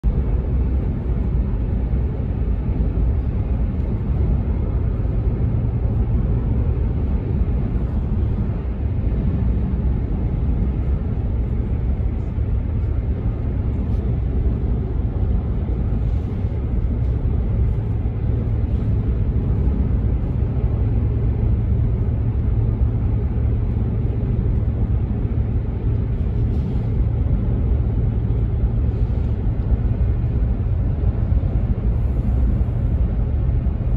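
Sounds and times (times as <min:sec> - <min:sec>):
tyre and road noise in car: 0:00.0 - 0:33.9.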